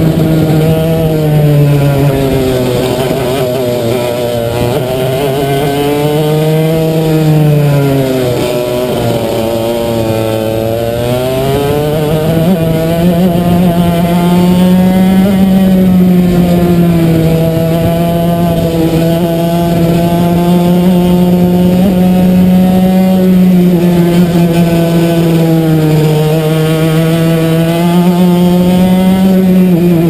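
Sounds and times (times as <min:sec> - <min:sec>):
kart engine at high revs: 0:00.0 - 0:30.0
wind and track noise: 0:00.0 - 0:30.0.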